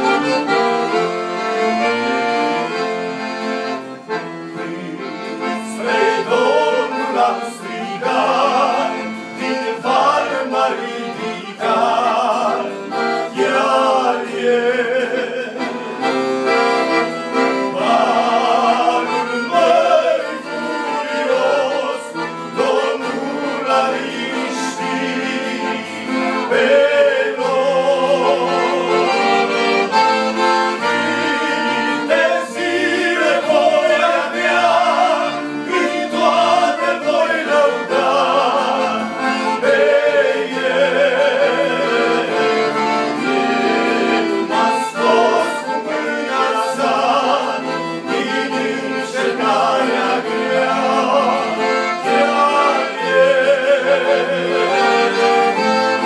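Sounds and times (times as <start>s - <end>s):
accordion chords: 0.0s - 56.0s
men singing: 4.5s - 56.0s.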